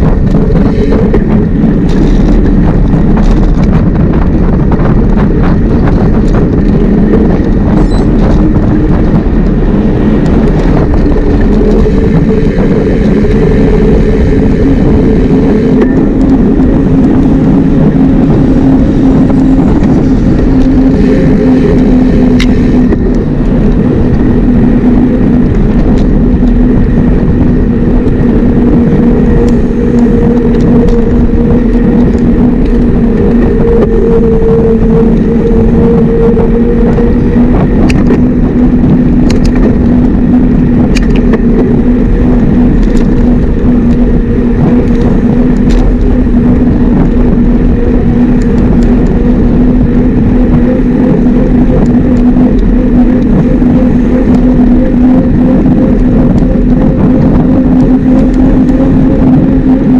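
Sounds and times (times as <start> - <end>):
humming drone: 0.0 - 59.9
road and wind noise: 0.0 - 59.9.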